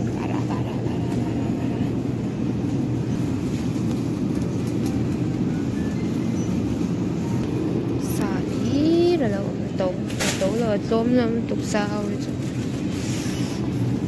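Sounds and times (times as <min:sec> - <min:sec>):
refrigeration hum and rumble: 0:00.0 - 0:14.0.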